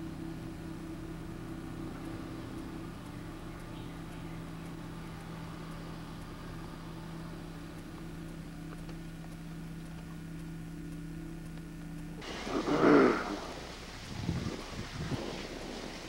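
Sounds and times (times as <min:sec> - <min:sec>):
distant lawnmower engine: 0:00.0 - 0:16.0.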